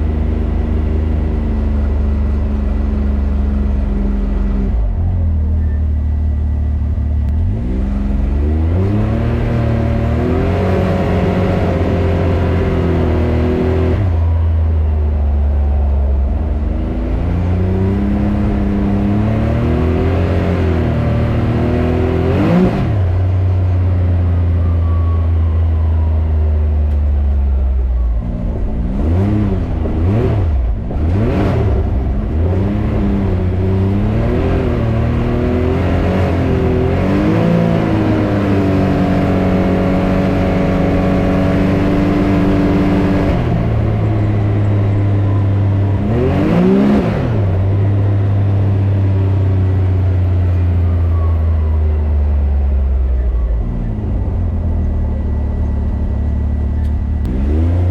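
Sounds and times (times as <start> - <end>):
engine revving: 0.0 - 57.9.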